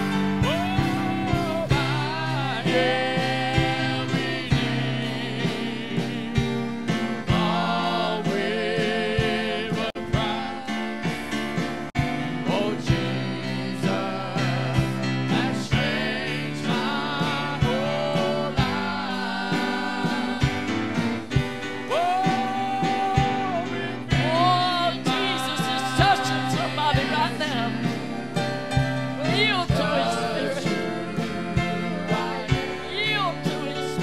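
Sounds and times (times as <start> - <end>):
people singing in harmony: 0.0 - 34.0.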